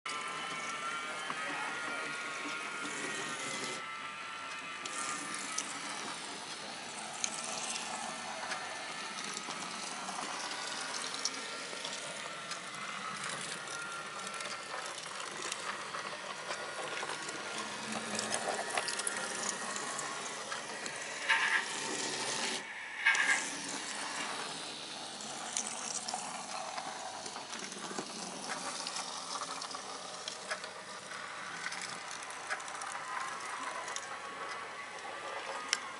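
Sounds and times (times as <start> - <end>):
gears and wheels clicking: 0.1 - 35.9
small electric motors whirring: 0.1 - 35.9.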